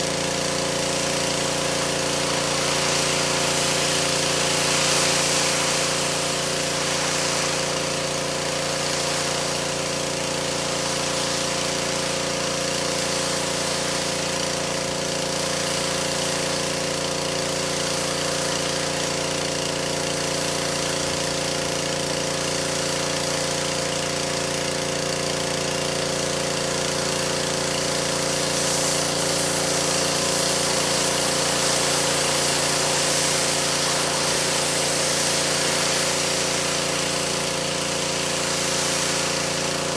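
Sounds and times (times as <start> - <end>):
pressure washer motor hum: 0.0 - 39.9
water jet hissing: 0.0 - 39.9.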